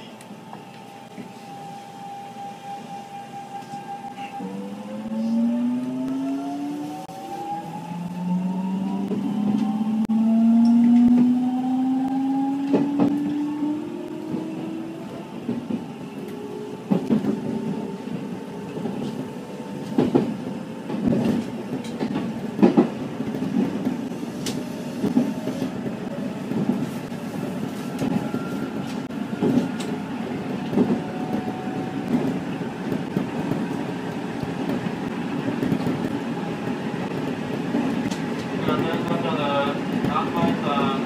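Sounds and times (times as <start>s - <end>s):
train running rumble: 8.0s - 41.0s.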